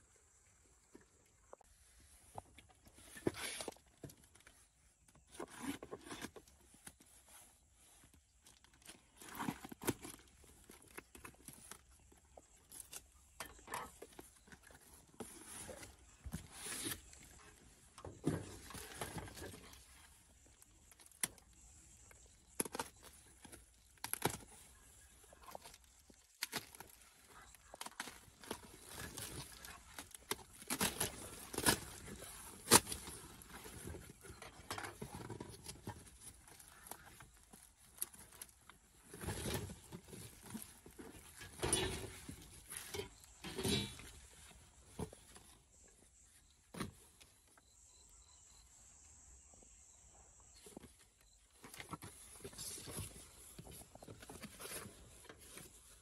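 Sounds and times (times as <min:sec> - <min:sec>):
rustling and crinkling: 0:00.2 - 0:48.7, 0:49.6 - 0:56.0.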